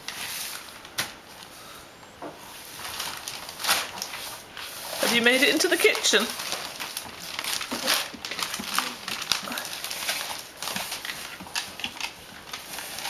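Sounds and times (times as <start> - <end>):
newspaper rustling and crinkling: 0.0 - 1.7, 2.5 - 13.0.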